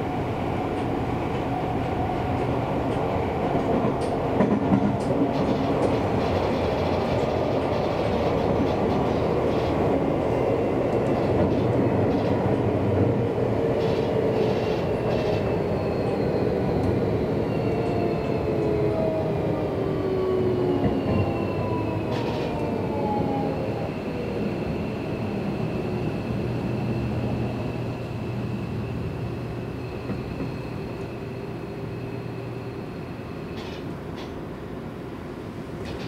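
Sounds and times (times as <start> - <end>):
rumble of train wheels on rails: 0.0 - 36.0.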